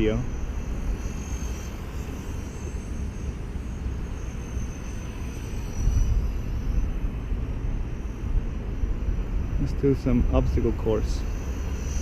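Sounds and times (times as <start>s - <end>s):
rc helicopter high whine: 0.0s - 12.0s
wind rumble on microphone: 0.0s - 12.0s.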